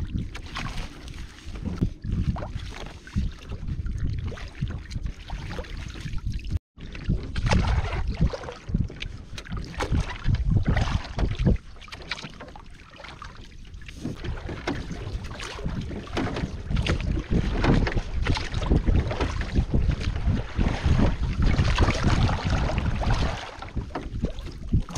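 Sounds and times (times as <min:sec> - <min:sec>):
wind buffeting microphone: 0:00.0 - 0:11.8, 0:13.9 - 0:24.9.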